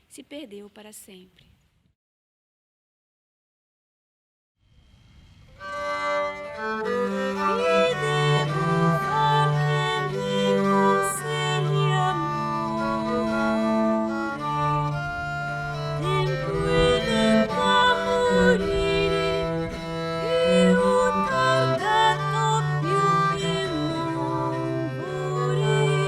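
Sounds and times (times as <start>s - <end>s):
bowed strings playing slow song: 4.7s - 26.0s.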